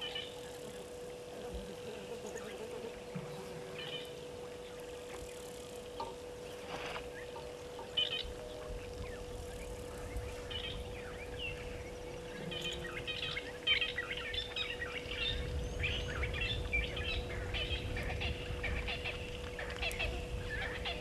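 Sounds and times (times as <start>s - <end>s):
birds chirping: 0.0s - 21.0s
faint steady hum: 0.0s - 21.0s
low rumbling noise: 0.0s - 21.0s.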